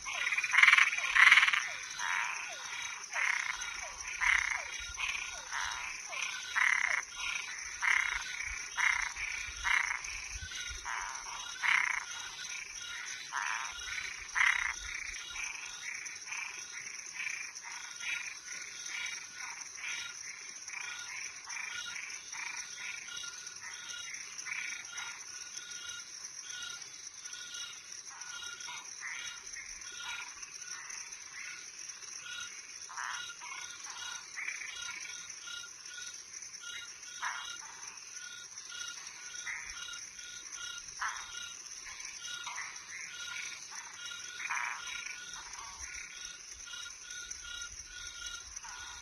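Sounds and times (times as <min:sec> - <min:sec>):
frogs calling: 0:00.0 - 0:49.0.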